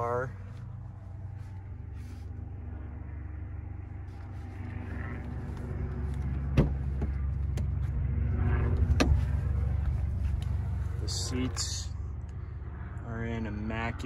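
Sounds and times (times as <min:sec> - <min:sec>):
car engine idling: 0:00.0 - 0:12.7.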